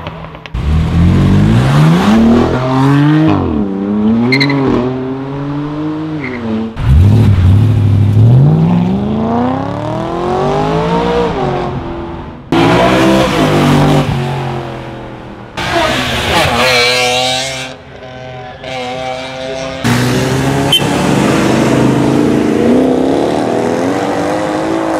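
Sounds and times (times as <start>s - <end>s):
sports car engines accelerating: 0.5s - 24.9s.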